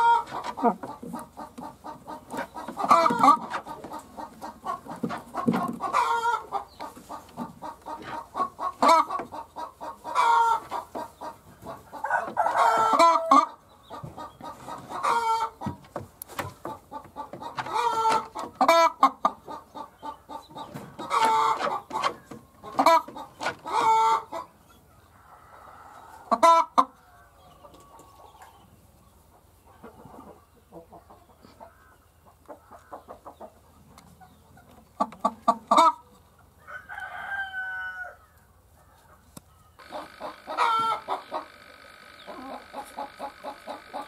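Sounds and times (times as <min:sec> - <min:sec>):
hens clucking: 0:00.0 - 0:44.0.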